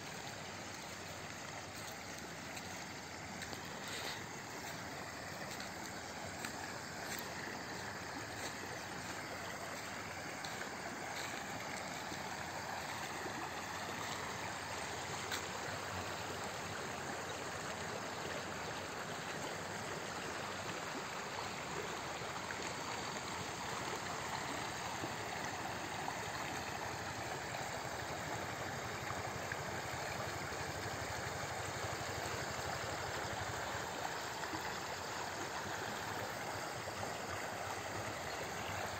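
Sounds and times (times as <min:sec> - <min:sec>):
shallow stream flowing: 0:00.0 - 0:38.9.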